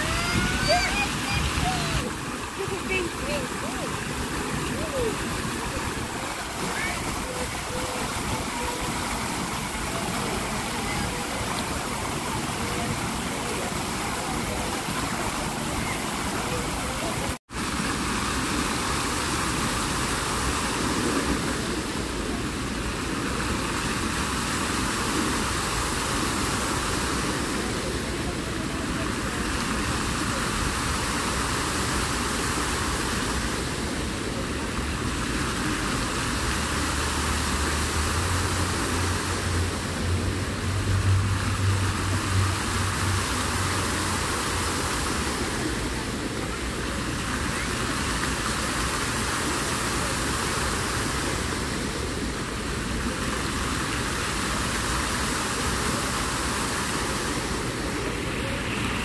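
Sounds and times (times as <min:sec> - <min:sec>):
water jets splashing into pool: 0:00.0 - 0:59.0.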